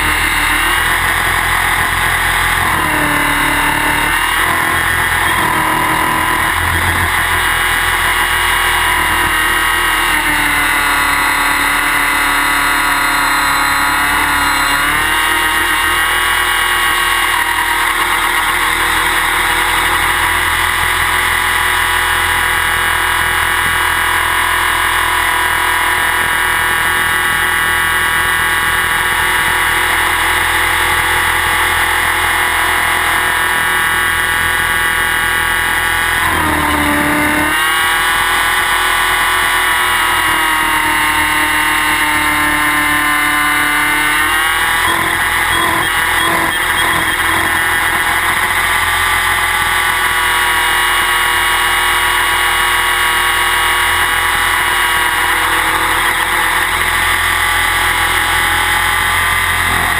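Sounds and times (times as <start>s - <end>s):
electric motor high whine: 0.0s - 59.9s
helicopter rotor noise: 0.0s - 59.9s.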